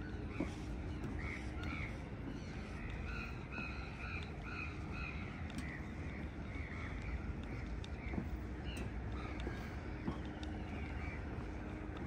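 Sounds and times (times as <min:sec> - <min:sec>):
birds calling: 0:00.0 - 0:12.0
low background rumble: 0:00.0 - 0:12.0.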